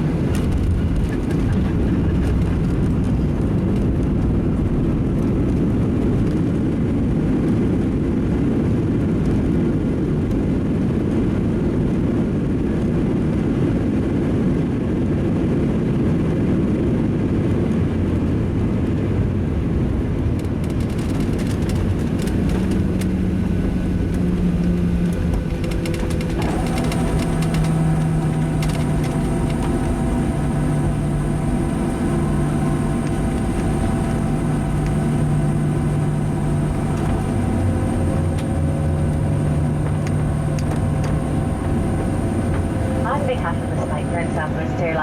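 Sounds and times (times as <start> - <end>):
airplane cabin rumble: 0.0 - 45.0
low engine hum: 0.0 - 45.0.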